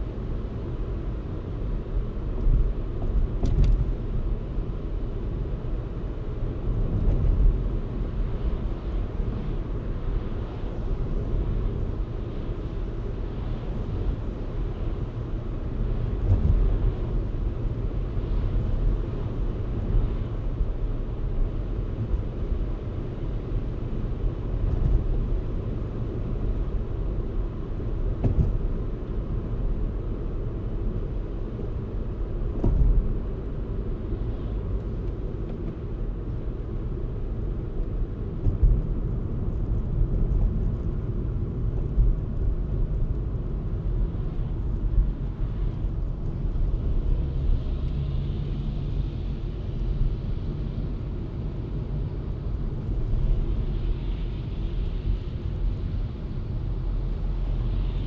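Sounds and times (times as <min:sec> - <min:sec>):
car tyres and engine rumble: 0:00.0 - 0:58.0.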